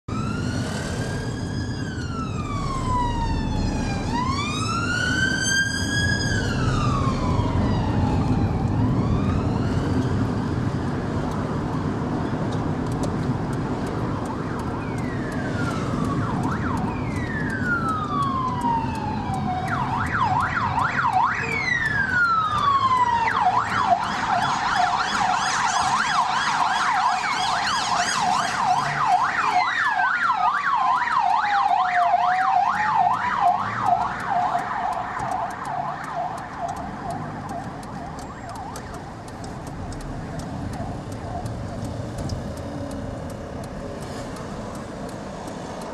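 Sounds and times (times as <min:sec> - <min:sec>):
road and engine rumble: 0:00.0 - 0:45.9
police sirens wailing and yelping: 0:00.1 - 0:45.9.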